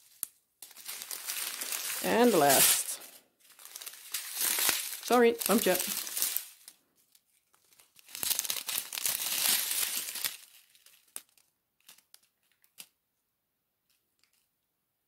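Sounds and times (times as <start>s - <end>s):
plastic bags crinkling: 0.0s - 12.9s.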